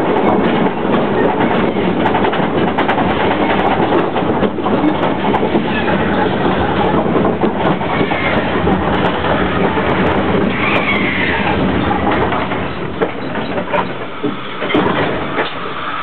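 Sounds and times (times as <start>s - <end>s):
train cars rattling rumble: 0.0s - 16.0s
wheels clicking on rails: 0.0s - 16.0s.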